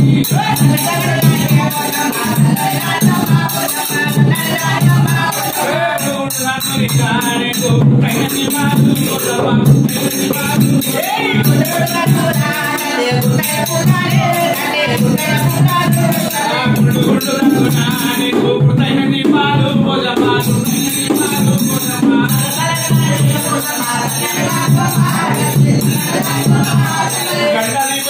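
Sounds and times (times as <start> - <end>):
hand cymbals jingling: 0.0 - 18.6, 20.3 - 28.0
men singing folk song: 0.0 - 28.0.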